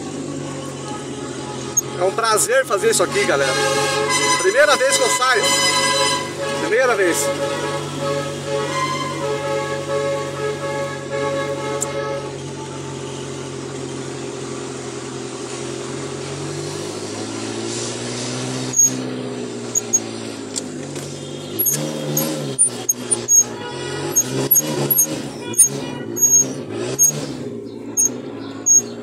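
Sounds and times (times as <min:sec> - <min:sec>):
car engine hum: 0:00.0 - 0:29.0.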